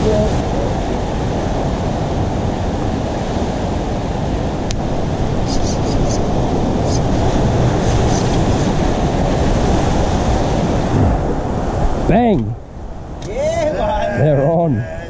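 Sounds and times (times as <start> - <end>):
surf rushing through rocks: 0.0 - 15.0.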